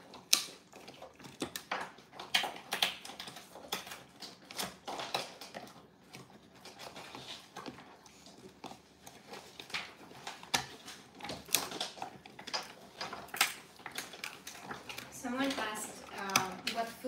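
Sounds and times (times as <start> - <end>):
dogs chewing crunchy treats: 0.0 - 17.0.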